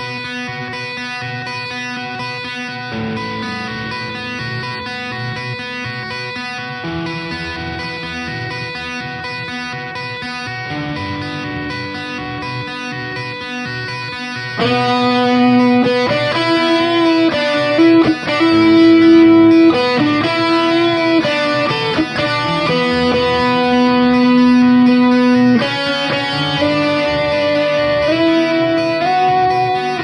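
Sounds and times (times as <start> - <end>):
guitar playing melodic notes: 0.0 - 30.0.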